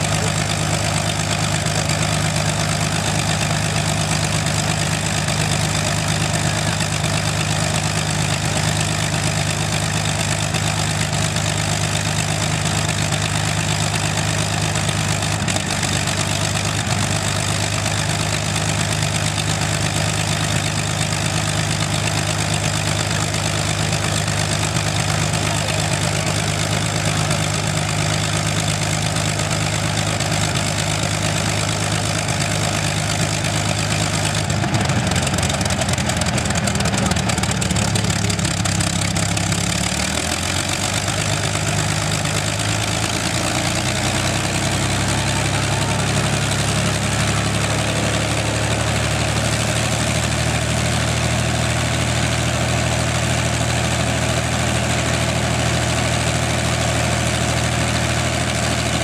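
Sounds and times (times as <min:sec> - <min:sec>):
aero engine running at low speed: 0:00.0 - 0:59.0.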